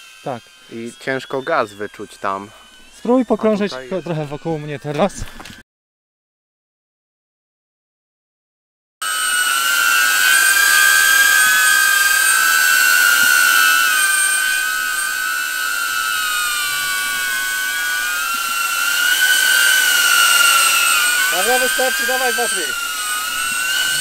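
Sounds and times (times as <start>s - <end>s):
drone propellers whining: 0.0s - 5.6s, 9.0s - 24.0s.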